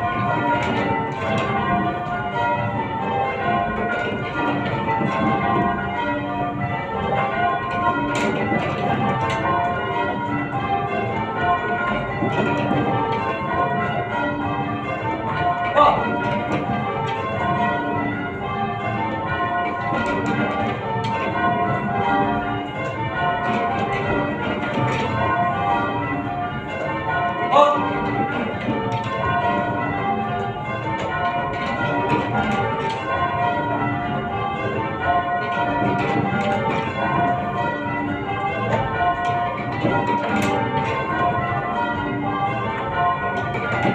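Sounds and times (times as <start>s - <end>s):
church bells ringing changes: 0.0s - 43.9s.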